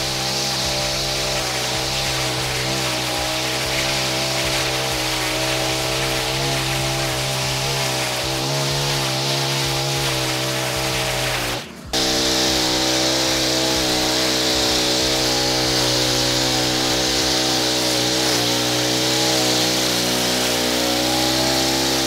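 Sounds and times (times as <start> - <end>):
string trimmer running: 0.0 - 22.0
trimmer line cutting grass: 0.0 - 22.0.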